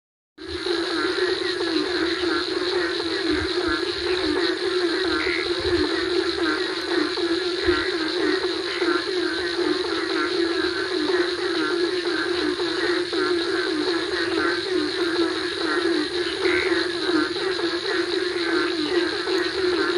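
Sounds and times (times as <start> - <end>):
crickets and insects chirping: 0.4 - 19.9
frogs calling: 0.4 - 19.9.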